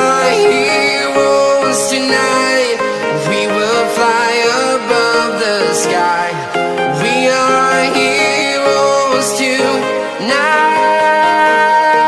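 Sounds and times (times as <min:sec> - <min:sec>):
pop song: 0:00.0 - 0:12.0.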